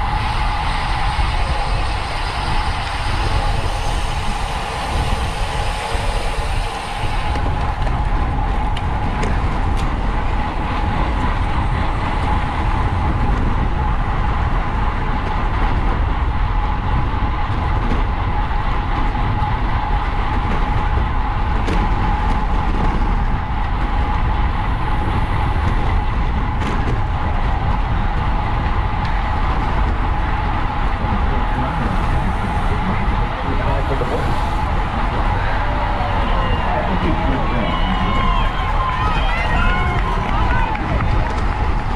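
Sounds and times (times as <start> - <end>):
bicycle hum: 0.0 - 41.9
wind rushing over microphone: 0.0 - 41.9.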